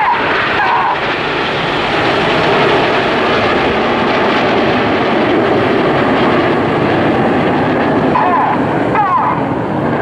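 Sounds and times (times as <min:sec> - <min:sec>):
jet engines flying past: 0:00.0 - 0:10.0.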